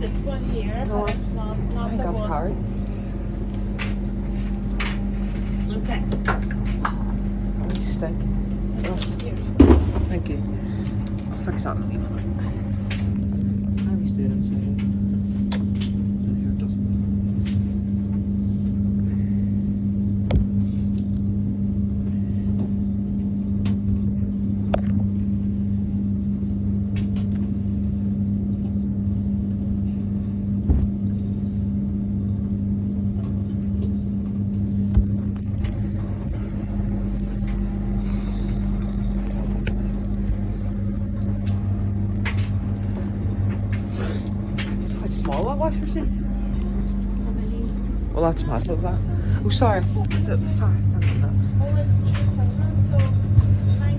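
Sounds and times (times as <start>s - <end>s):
deep rumble: 0.0s - 53.9s
low mechanical hum: 0.0s - 53.9s.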